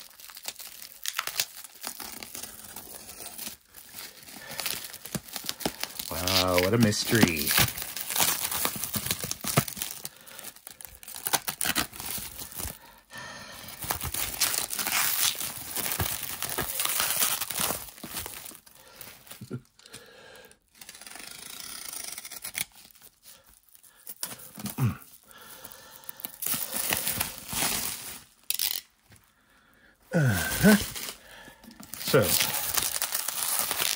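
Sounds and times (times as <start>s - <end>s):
plastic wrapping tearing and crinkling: 0.0s - 12.8s, 13.7s - 19.8s, 20.7s - 29.2s, 30.2s - 33.9s.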